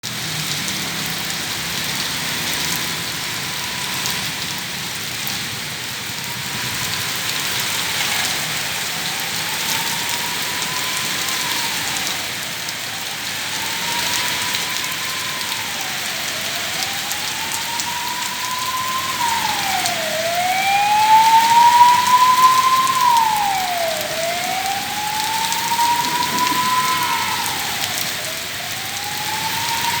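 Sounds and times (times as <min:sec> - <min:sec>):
heavy rain: 0:00.0 - 0:30.0
emergency siren wailing: 0:00.1 - 0:30.0.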